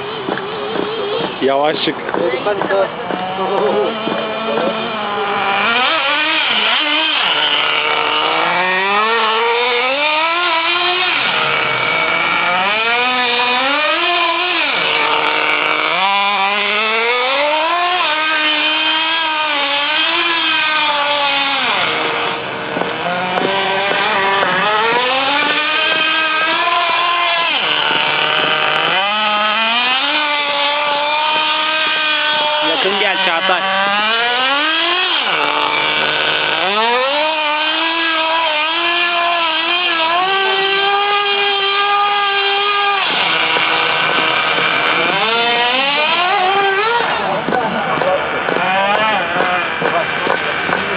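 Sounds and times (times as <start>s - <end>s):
model car engine revving: 0.0s - 50.9s.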